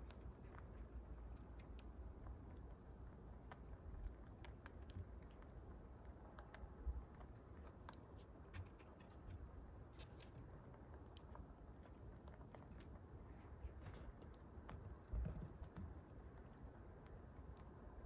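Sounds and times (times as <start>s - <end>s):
rabbits nibbling with small clicks: 0.0s - 18.0s.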